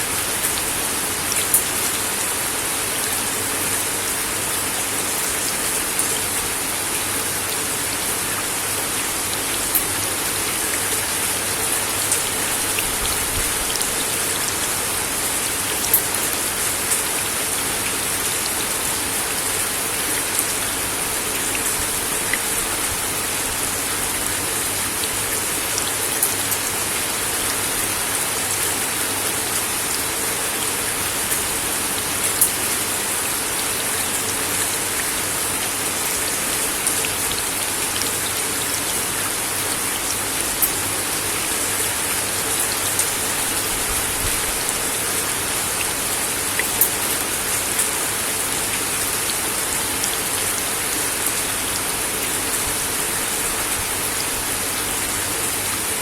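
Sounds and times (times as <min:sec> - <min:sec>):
rain on a wooden deck: 0:00.0 - 0:56.0.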